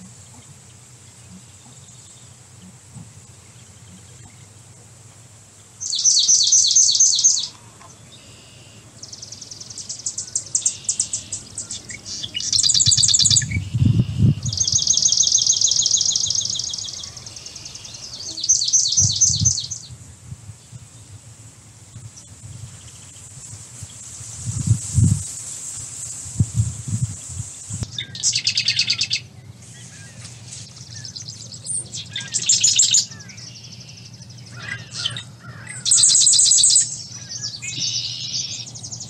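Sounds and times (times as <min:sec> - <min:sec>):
songbirds trilling: 0:00.0 - 0:20.0, 0:21.8 - 0:39.0.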